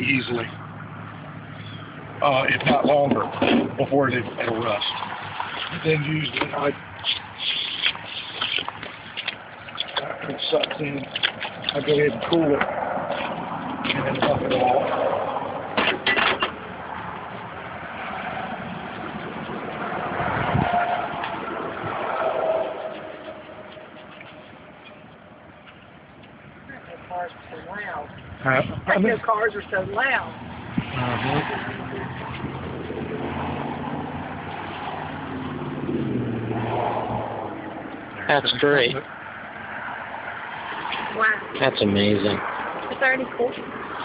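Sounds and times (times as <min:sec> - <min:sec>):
car passing: 0:00.0 - 0:44.0.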